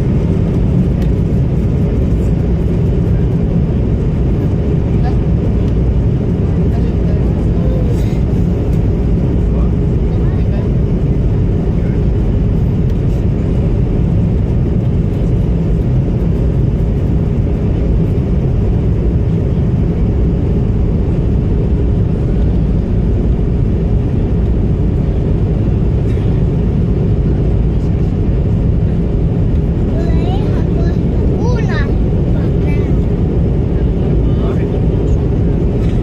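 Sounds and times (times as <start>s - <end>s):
airliner cabin engine roar: 0.0s - 36.0s.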